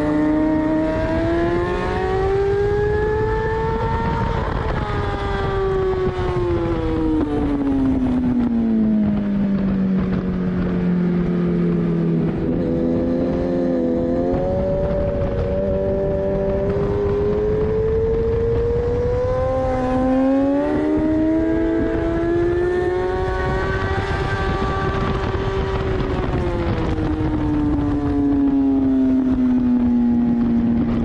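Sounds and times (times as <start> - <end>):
motorcycle engine revving: 0.0 - 31.0
wind rush: 0.0 - 31.0.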